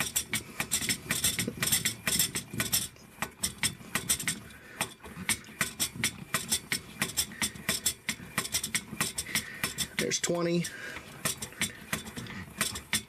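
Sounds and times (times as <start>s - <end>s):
hand air pump strokes: 0.0s - 13.0s
pump clicks: 0.0s - 13.0s.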